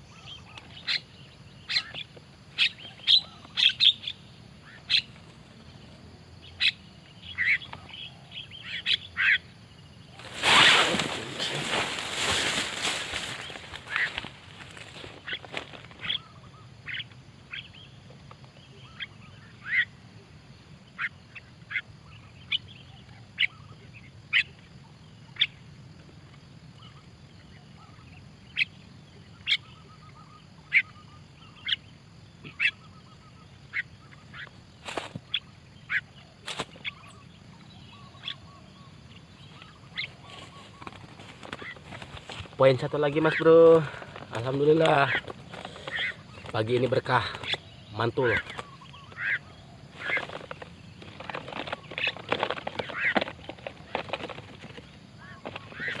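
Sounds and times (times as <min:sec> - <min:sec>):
birds giving sharp calls: 0:00.0 - 0:20.1, 0:20.8 - 0:25.6, 0:26.8 - 0:56.0.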